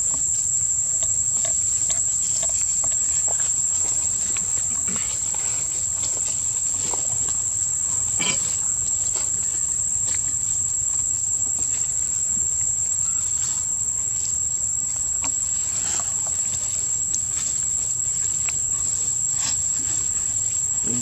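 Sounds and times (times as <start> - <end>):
faint rustles and ticks: 0.0 - 21.0
insects droning: 0.0 - 21.0.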